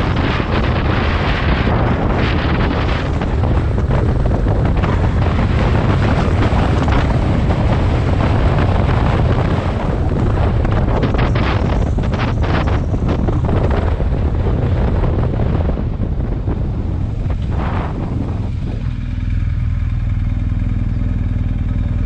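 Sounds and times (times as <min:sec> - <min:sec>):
motorcycle engine drone: 0:00.0 - 0:22.0
wind buffeting microphone: 0:00.0 - 0:22.0.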